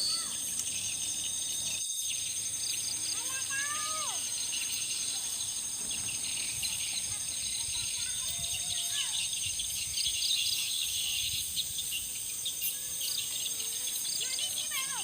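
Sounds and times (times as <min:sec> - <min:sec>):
crickets shrilling: 0:00.0 - 0:15.0.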